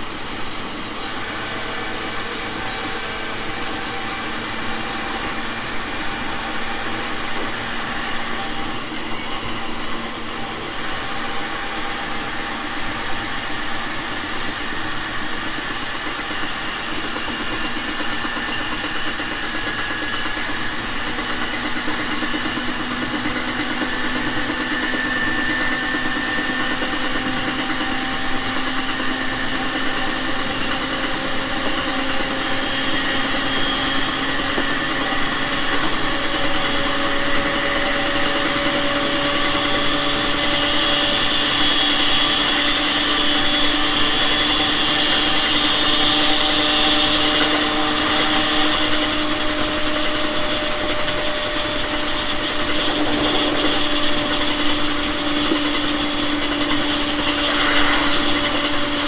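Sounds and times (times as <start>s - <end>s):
traction motor whine: 0.0s - 59.0s
train wheel and rail noise: 0.0s - 59.0s.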